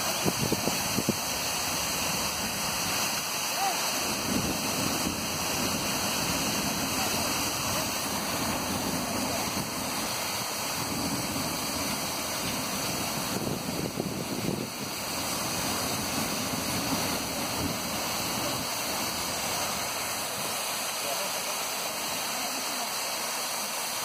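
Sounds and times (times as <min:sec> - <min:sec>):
fire hose spraying water: 0:00.0 - 0:24.0.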